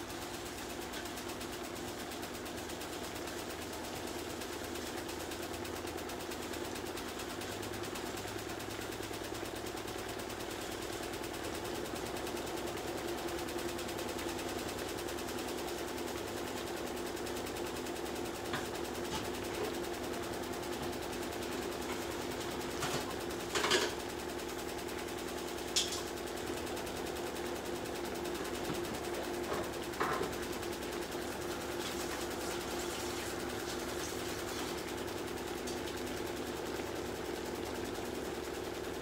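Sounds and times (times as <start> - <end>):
kitchen hum and hiss: 0.0 - 39.0.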